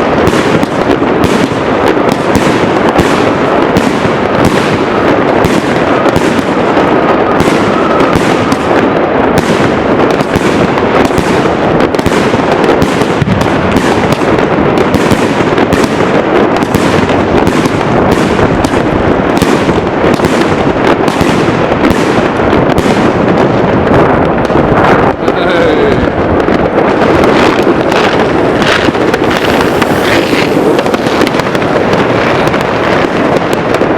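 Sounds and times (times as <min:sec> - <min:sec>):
fireworks bangs and cracks: 0:00.0 - 0:33.9.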